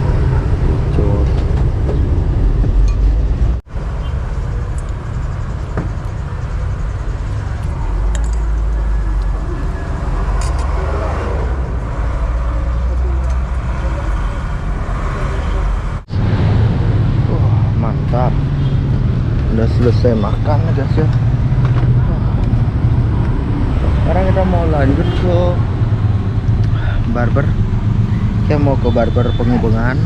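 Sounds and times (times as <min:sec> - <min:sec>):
people's voices: 0:00.0 - 0:01.6, 0:04.4 - 0:16.0, 0:16.7 - 0:30.0
road traffic rumble: 0:00.0 - 0:30.0.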